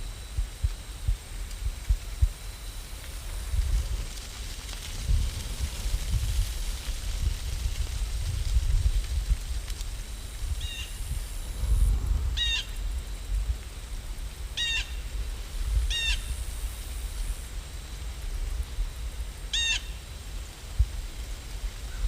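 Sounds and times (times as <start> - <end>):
steady low rumble: 0.0 - 19.5.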